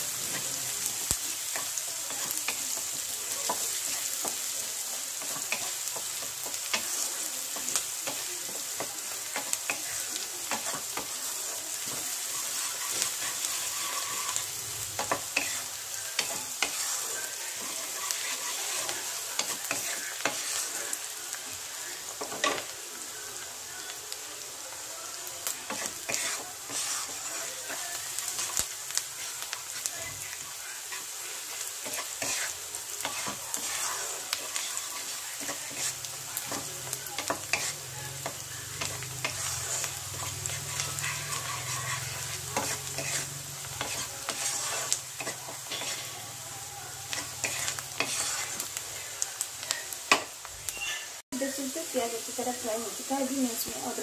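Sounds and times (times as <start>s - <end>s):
onions sizzling in hot oil: 0.0s - 54.0s
spatula scraping a pan: 0.1s - 22.8s, 25.2s - 51.2s.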